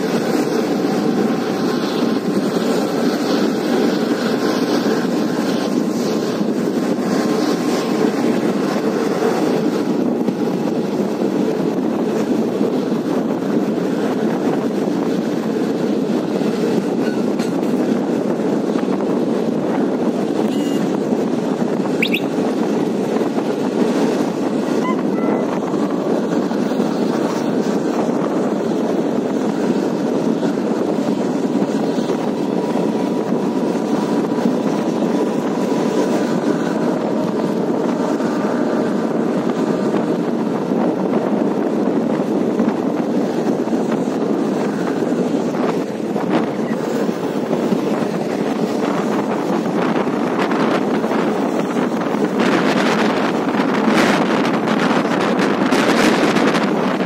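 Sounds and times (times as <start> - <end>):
rushing air: 0.0 - 57.0
train wheels rumbling on track: 0.0 - 57.0.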